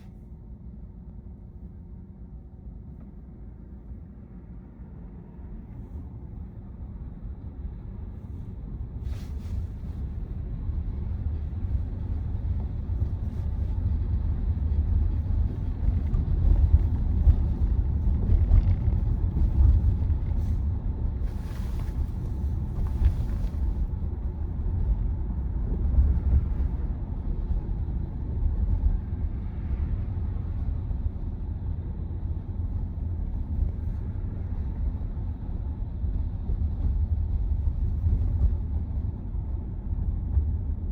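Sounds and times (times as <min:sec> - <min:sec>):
road and tyre rumble in car: 0:00.0 - 0:40.9.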